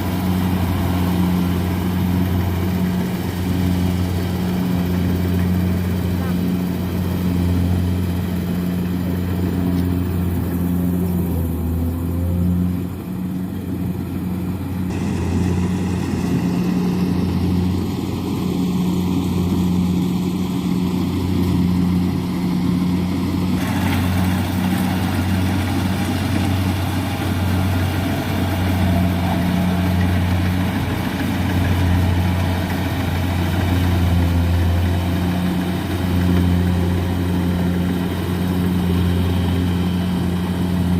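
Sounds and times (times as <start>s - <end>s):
diesel engine droning: 0.0s - 40.9s
machinery noise: 0.0s - 40.9s.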